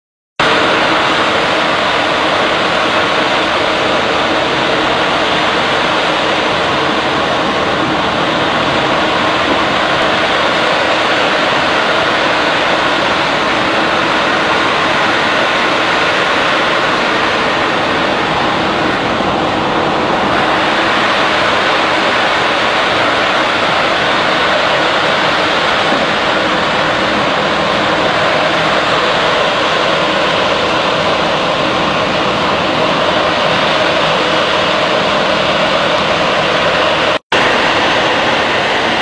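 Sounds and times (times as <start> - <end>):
extrusion machinery running: 0.4 - 39.0.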